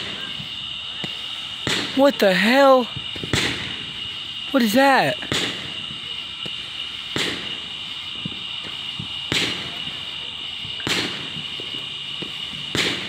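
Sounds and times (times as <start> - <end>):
fireworks bangs: 0.0 - 13.0
fireworks pops and crackles: 0.0 - 13.0.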